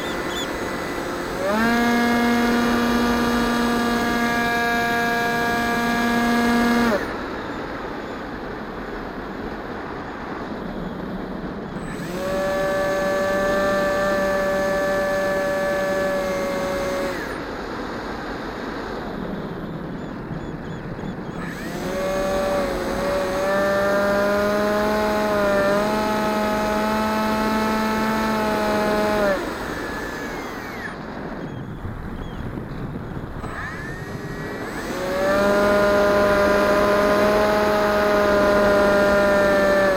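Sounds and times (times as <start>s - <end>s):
model plane motor whining: 0.0s - 7.6s, 11.6s - 18.7s, 20.3s - 39.9s.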